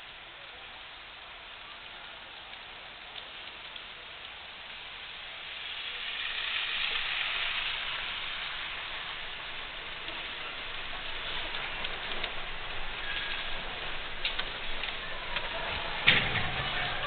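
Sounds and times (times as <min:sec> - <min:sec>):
rain-like hiss: 0:00.0 - 0:17.0.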